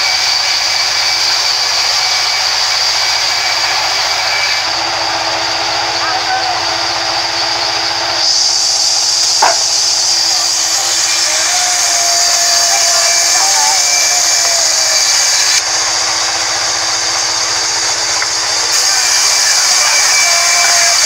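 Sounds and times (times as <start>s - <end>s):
band saw cutting timber: 0.0s - 21.0s.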